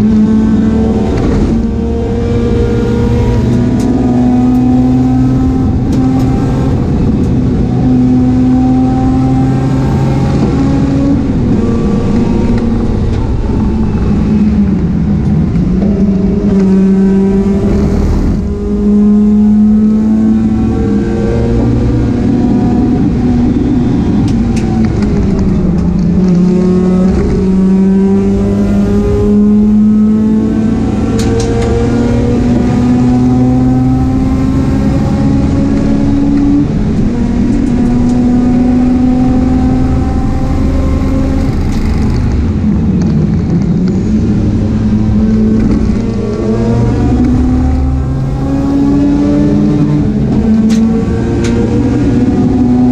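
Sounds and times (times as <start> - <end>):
race car engine at full throttle: 0.0 - 52.9.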